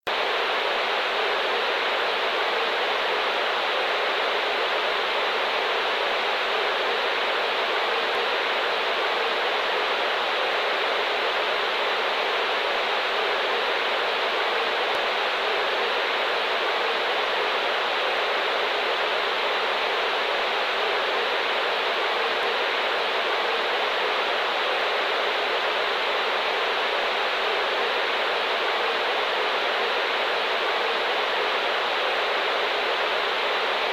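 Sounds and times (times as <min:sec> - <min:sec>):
radio static hiss: 0:00.1 - 0:33.9.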